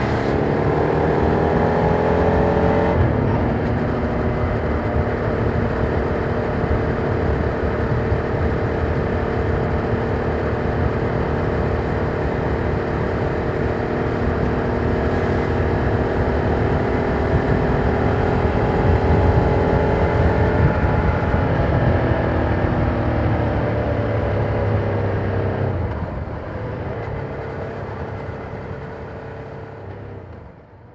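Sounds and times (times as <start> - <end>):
motorcycle engine running: 0.0 - 30.5
road and wind noise: 0.0 - 30.9.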